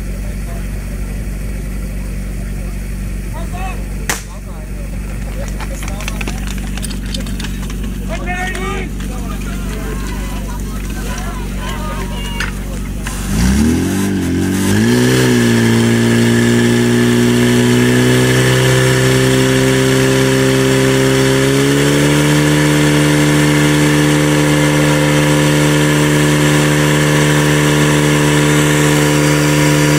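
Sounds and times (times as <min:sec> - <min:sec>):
pump engine revving: 0:00.0 - 0:29.9.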